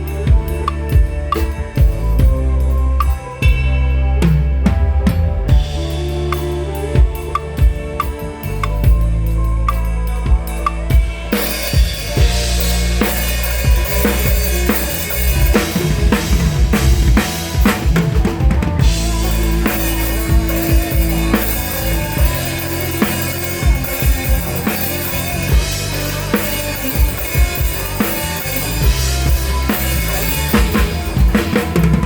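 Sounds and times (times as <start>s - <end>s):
bass guitar: 0.0s - 32.0s
held guitar notes: 0.0s - 32.0s
rock drum kit: 0.0s - 32.0s.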